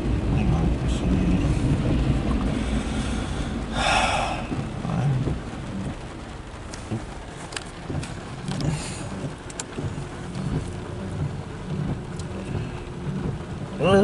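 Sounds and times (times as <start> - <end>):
freight cars rumbling: 0.0 - 14.0.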